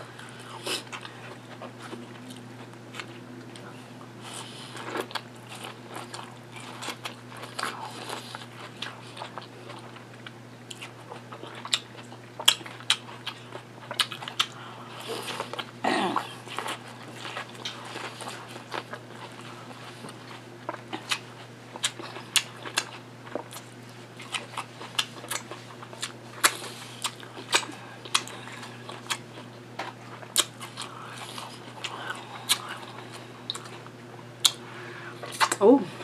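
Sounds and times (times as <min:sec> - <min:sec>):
chewing corn with wet mouth clicks: 0:04.9 - 0:15.7, 0:16.5 - 0:34.6, 0:35.2 - 0:35.6.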